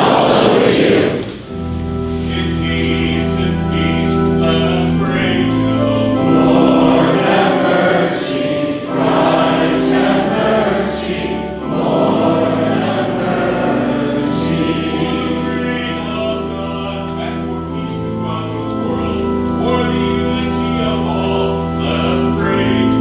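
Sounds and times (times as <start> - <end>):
congregation singing: 0.0 - 23.0
sustained instrumental accompaniment: 0.0 - 23.0.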